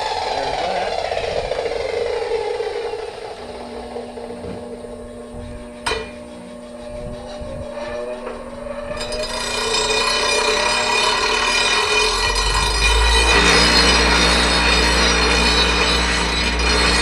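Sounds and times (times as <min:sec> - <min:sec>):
metal-working noise: 0:00.0 - 0:17.0
power tool whine: 0:00.0 - 0:17.0
steady hum: 0:00.0 - 0:17.0.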